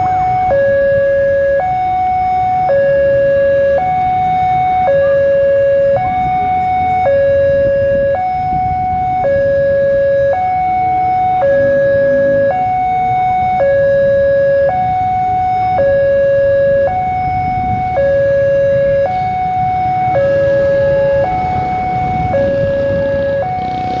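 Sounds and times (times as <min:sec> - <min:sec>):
two-tone level crossing alarm: 0:00.0 - 0:24.0.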